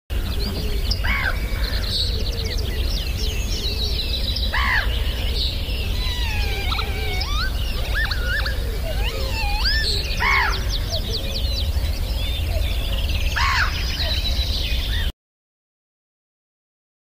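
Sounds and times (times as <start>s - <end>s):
birds whistling and chirping: 0.2s - 15.1s.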